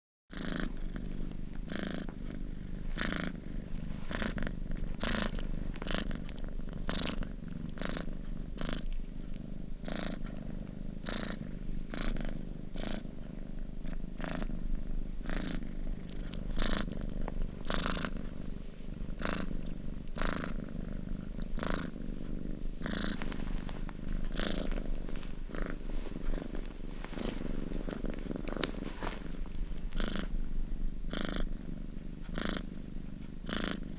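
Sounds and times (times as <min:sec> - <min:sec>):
cat purring: 0:00.3 - 0:33.9.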